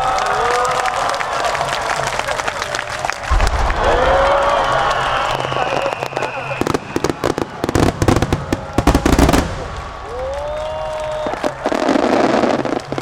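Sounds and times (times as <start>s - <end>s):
crowd noise: 0.0s - 13.0s
crowd rising call: 0.0s - 13.0s
fireworks bangs and crackles: 1.5s - 13.0s.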